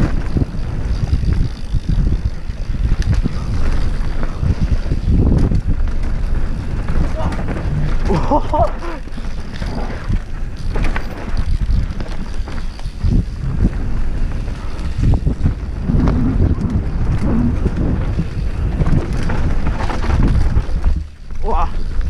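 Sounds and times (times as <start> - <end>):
bike knocks and rattles: 0.0 - 22.0
bike tyres rolling on dirt: 0.0 - 22.0
wind buffeting microphone: 0.0 - 22.0.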